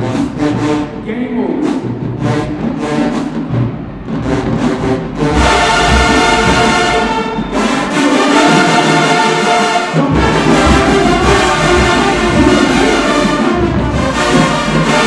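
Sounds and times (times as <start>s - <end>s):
low drum beats: 0.0s - 9.2s, 10.0s - 15.0s
brass band sustained chords: 0.0s - 15.0s.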